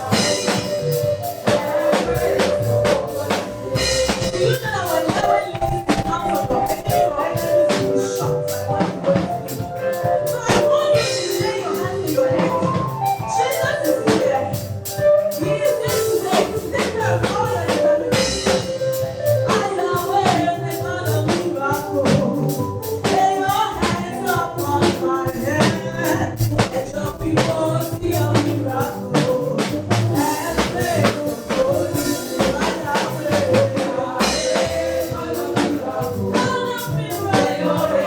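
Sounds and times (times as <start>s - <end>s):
bass: 0.0s - 38.0s
drum kit: 0.0s - 38.0s
gospel band playing: 0.0s - 38.0s
voices singing: 0.0s - 38.0s.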